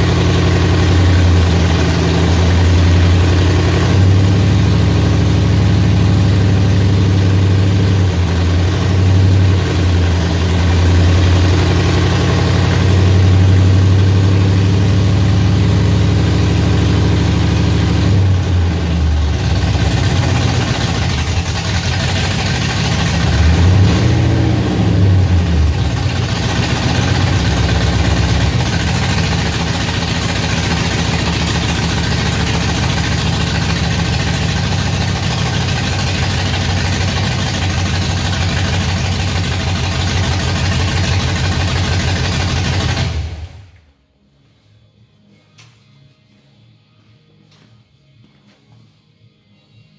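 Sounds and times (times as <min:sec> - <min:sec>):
truck engine idling: 0:00.0 - 0:43.8.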